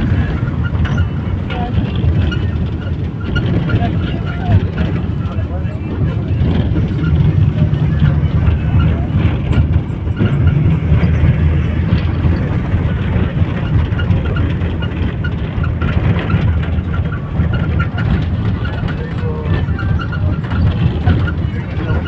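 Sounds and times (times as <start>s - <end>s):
bus diesel engine running: 0.0s - 22.0s
faint light rattles: 0.0s - 22.0s.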